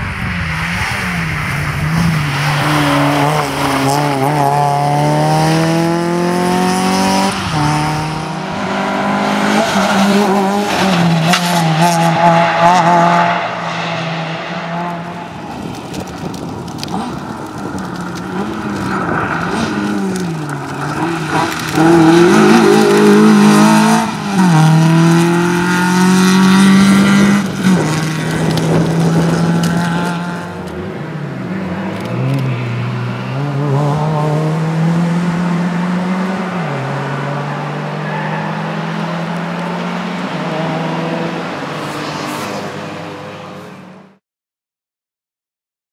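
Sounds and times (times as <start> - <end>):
rally car engine at full throttle: 0.0 - 44.2.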